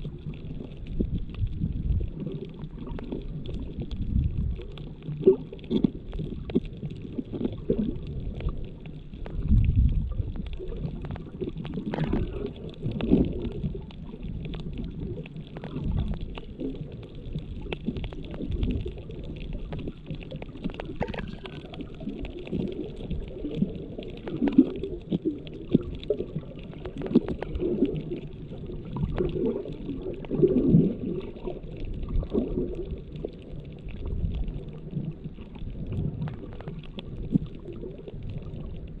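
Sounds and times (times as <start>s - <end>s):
muffled underwater rumbling and gurgling: 0.0s - 39.0s.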